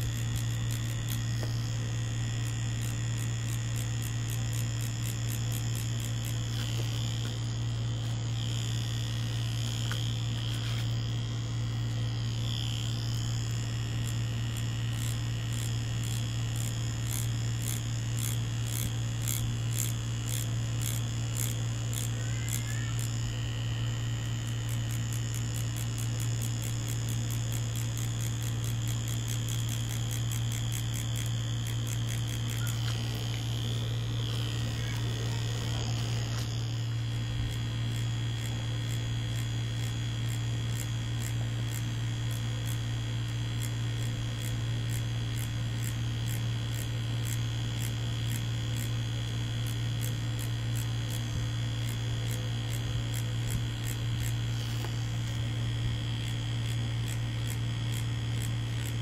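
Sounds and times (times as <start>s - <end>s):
tattoo machine buzzing: 0.0s - 59.0s.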